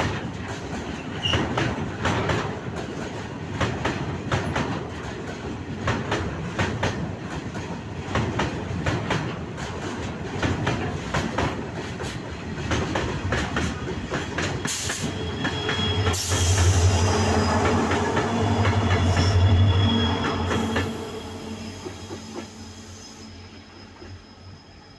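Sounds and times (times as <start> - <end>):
freight train wheels clicking: 0.0 - 23.0.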